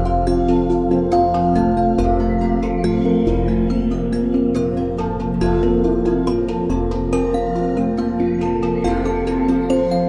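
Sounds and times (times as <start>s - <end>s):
calm instrumental music: 0.0s - 10.0s.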